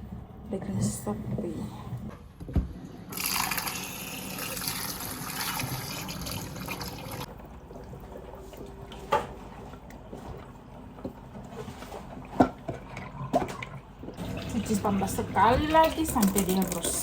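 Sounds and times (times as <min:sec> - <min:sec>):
tap water running: 0:02.5 - 0:11.5, 0:12.1 - 0:17.0.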